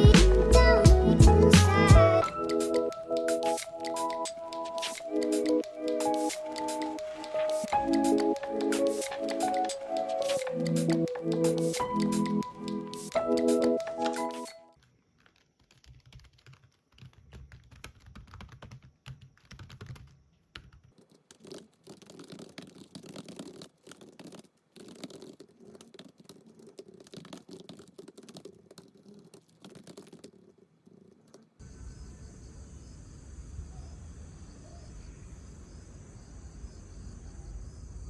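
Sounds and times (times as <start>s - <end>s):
typing on keyboard: 0.0s - 31.6s.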